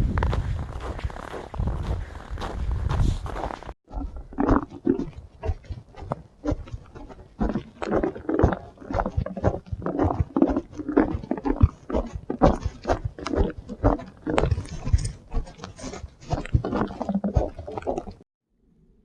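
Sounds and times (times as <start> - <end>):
heavy rapid breathing: 0.3 - 3.7, 4.8 - 17.8.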